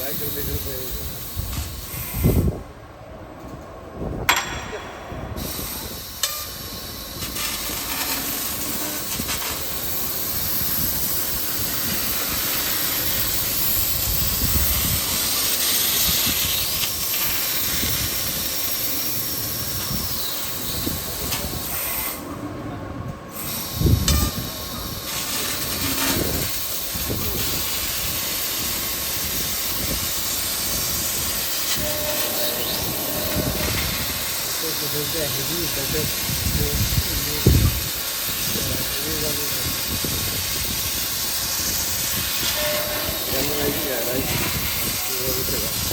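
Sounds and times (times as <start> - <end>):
laser cutting jet hissing: 0.0 - 2.5, 5.3 - 22.2, 23.3 - 45.9
machine whine: 4.2 - 45.9.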